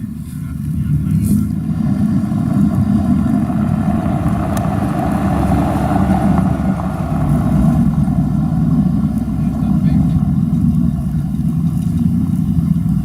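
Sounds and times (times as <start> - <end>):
car engine idling low: 0.0 - 13.0.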